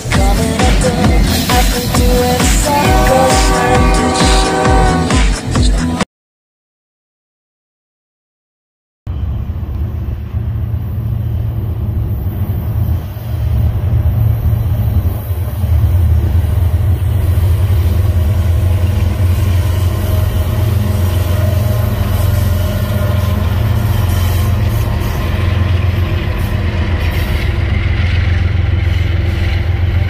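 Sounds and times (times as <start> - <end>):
diesel locomotive engine rumble: 0.0 - 6.0, 9.1 - 30.0.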